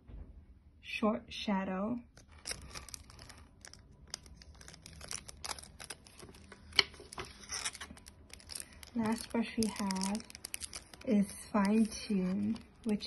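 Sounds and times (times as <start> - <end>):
plastic packaging crinkling: 2.1 - 13.0.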